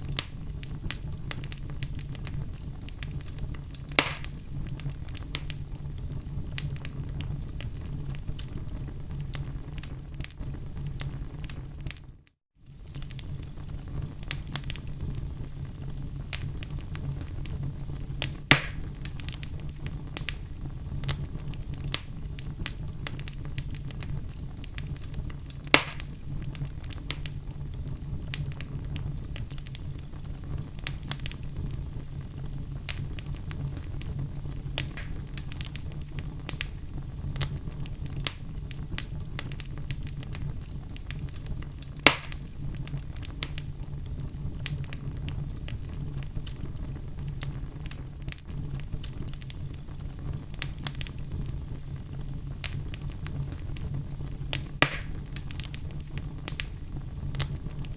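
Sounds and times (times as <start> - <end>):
loud sharp fire pops: 0.0 - 12.1, 12.7 - 57.9
fire crackling: 0.0 - 57.9
low rumble of flames: 0.0 - 57.9.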